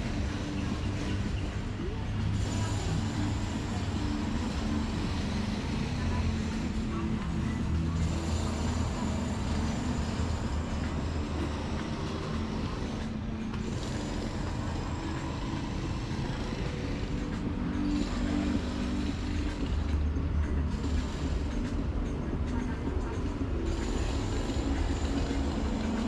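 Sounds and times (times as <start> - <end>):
vehicle engines droning: 0.0 - 26.0.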